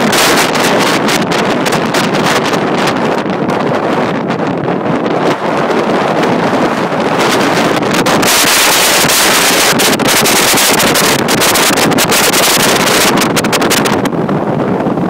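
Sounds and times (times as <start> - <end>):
wind blasting on microphone: 0.0 - 15.0.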